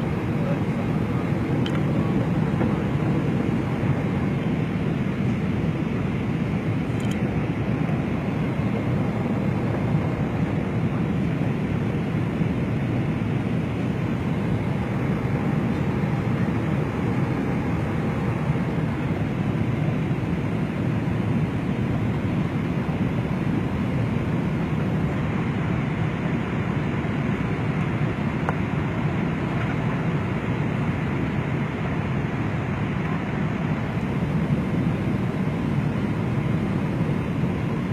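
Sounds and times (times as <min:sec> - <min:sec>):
airliner cabin engine noise: 0:00.0 - 0:37.9.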